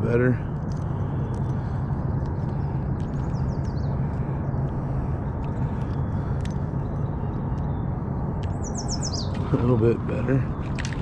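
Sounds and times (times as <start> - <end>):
distant road traffic hum: 0.0 - 11.0
bird chirping: 0.5 - 11.0.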